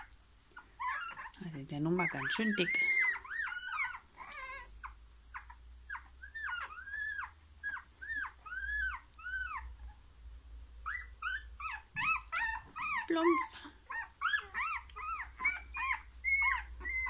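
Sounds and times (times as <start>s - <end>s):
puppies whimpering and squeaking: 0.0s - 10.1s, 10.8s - 17.0s.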